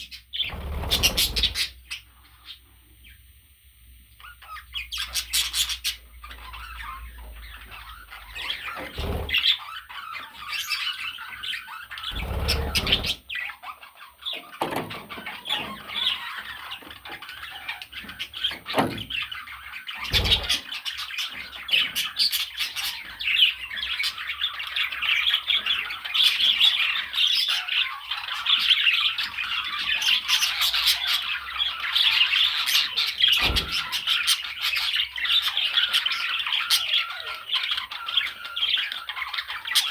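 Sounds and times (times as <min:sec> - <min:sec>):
budgerigar chattering and squawking: 0:00.0 - 0:02.6, 0:04.2 - 0:39.9.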